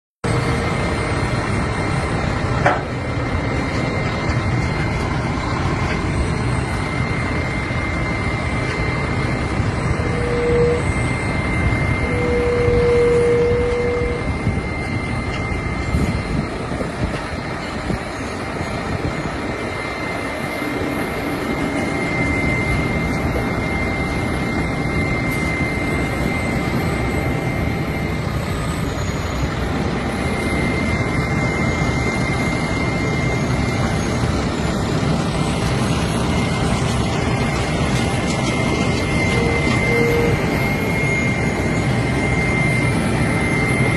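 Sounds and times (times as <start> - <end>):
heavy machine drone: 0.2 - 43.9
high machine whine: 0.2 - 43.9
mid-pitched tone: 0.4 - 34.2, 38.4 - 43.9.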